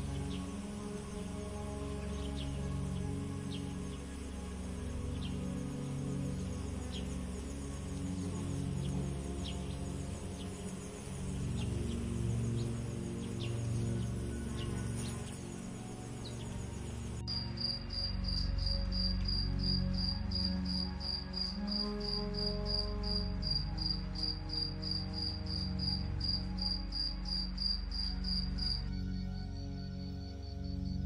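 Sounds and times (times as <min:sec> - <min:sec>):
cricket chirping: 0:00.0 - 0:31.0
soft ambient music: 0:00.0 - 0:31.0.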